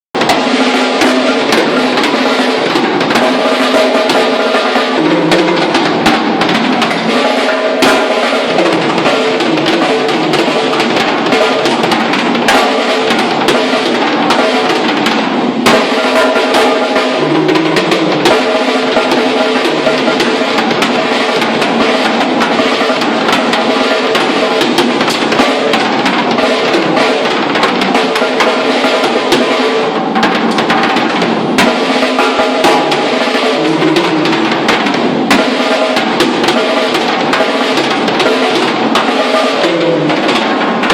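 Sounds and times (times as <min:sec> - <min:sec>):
drum kit playing: 0:00.2 - 0:40.9.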